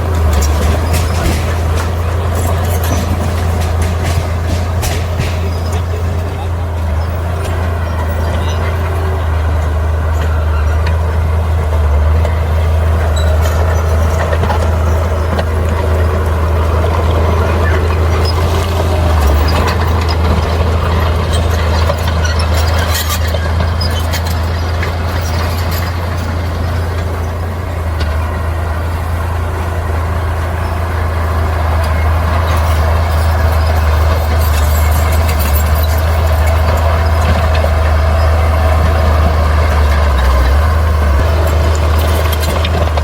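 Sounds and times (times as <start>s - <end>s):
bulldozer diesel engine running: 0.0s - 43.0s
metallic clatter of tracks: 0.0s - 43.0s.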